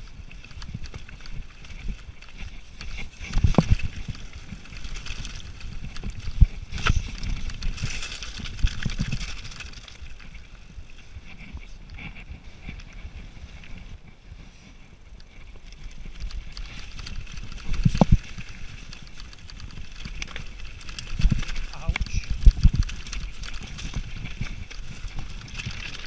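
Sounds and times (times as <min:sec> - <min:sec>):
tyres crunching on stones: 0:00.0 - 0:10.8, 0:15.3 - 0:26.0
mountain bike rattling over rocks: 0:00.0 - 0:26.0.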